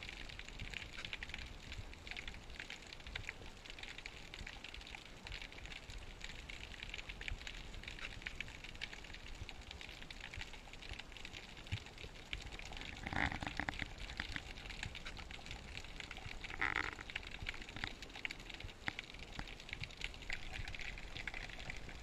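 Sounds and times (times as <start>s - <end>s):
fine underwater crackling clicks: 0.0s - 22.0s
regulator bubbles gushing: 0.0s - 22.0s.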